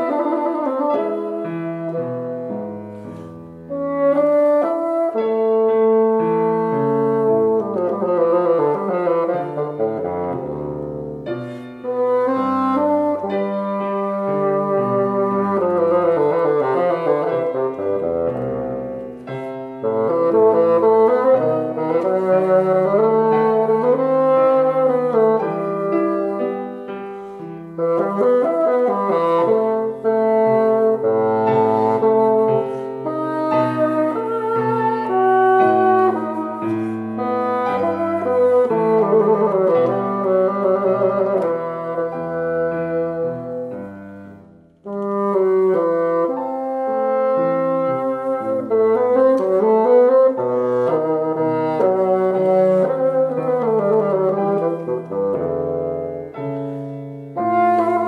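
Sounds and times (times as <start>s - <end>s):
bassoon melody: 0.0s - 58.0s
piano accompaniment: 0.0s - 58.0s.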